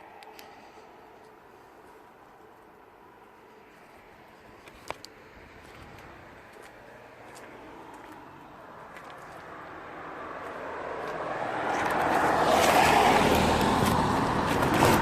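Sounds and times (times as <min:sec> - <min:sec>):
road vehicle approaching: 0:00.0 - 0:15.0.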